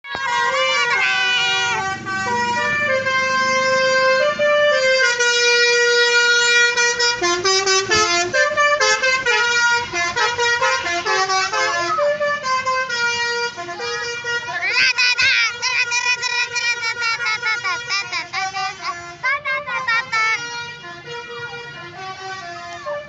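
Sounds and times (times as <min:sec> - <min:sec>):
multi-tone air horn playing tune: 0:00.1 - 0:23.0.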